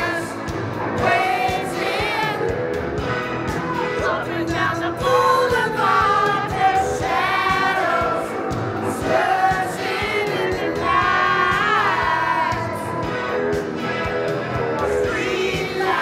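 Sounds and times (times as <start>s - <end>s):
women singing along: 0.0s - 2.7s, 4.0s - 13.1s, 14.8s - 16.0s
several voices singing: 0.0s - 2.8s, 4.0s - 13.2s, 14.7s - 16.0s
music with a steady beat: 0.0s - 16.0s.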